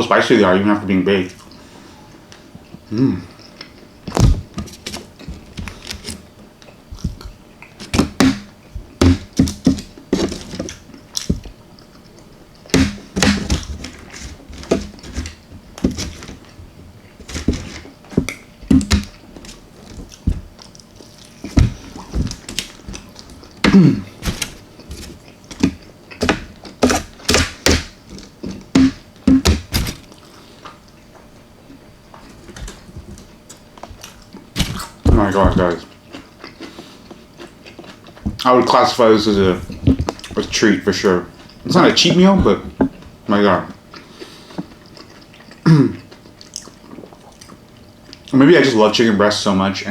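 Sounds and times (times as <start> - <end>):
person chewing food: 1.3 - 48.4.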